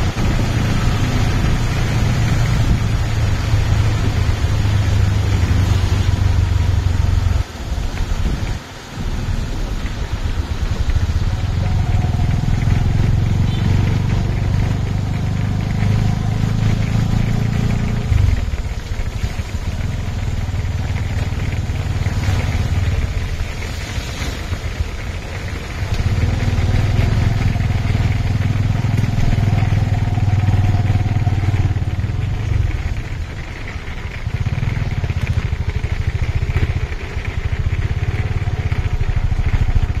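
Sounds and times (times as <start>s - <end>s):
tuk tuk engine droning: 0.0s - 40.0s.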